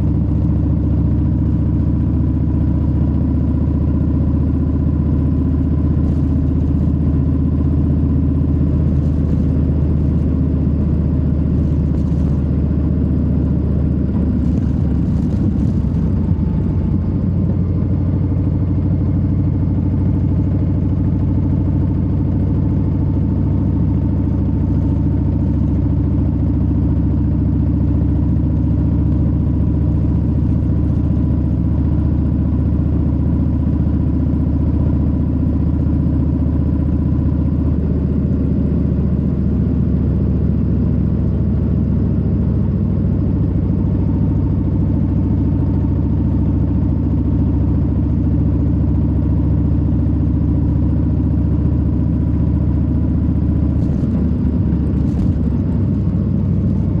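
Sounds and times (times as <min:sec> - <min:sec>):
motorcycle exhaust drone: 0:00.0 - 0:57.0.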